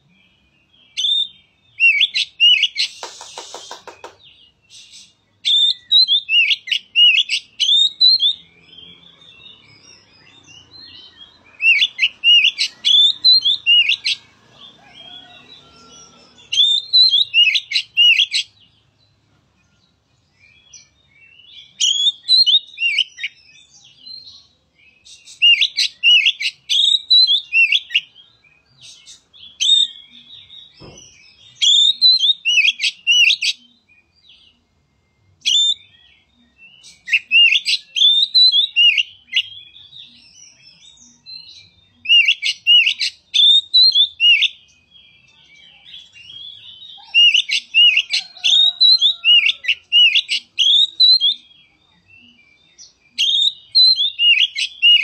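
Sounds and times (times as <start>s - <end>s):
bird singing whistled notes: 0.0s - 55.0s.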